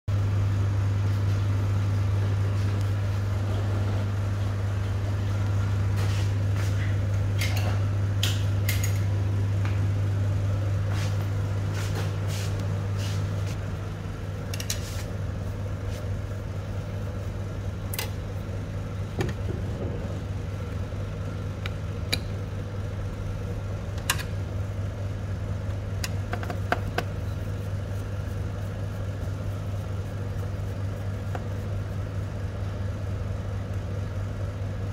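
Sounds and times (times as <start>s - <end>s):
copier hum: 0.1s - 34.9s.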